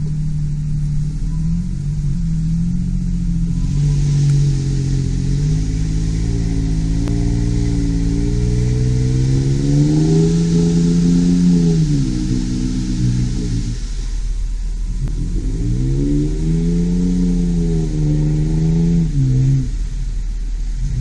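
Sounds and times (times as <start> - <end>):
steady hiss: 0.0 - 21.0
vehicle engine pulling under load: 0.0 - 21.0.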